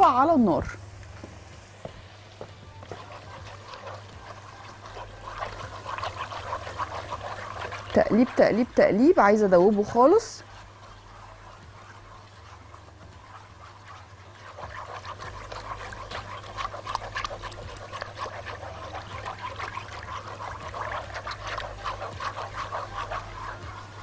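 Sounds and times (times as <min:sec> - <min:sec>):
whisk scraping metal pot: 0:00.0 - 0:00.8, 0:02.6 - 0:24.0.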